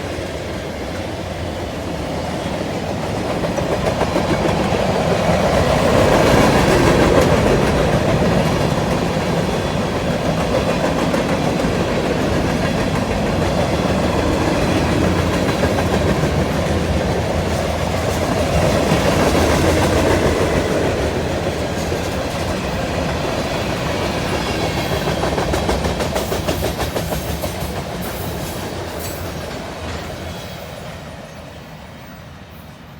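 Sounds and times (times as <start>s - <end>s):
train wheels clattering over rail joints: 0.6s - 31.1s.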